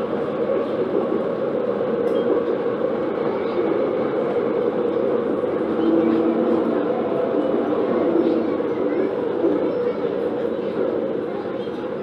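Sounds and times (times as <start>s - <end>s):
electric train rumbling on track: 0.0s - 12.0s.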